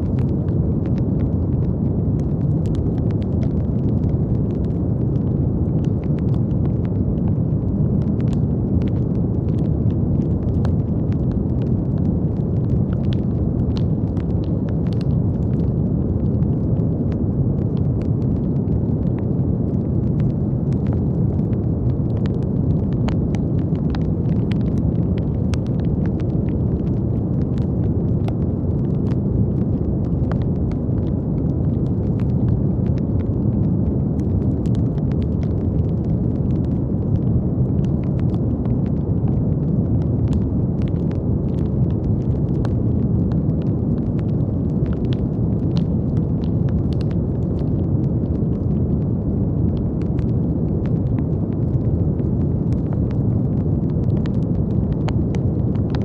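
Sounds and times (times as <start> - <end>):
faint crackles: 0.0 - 56.0.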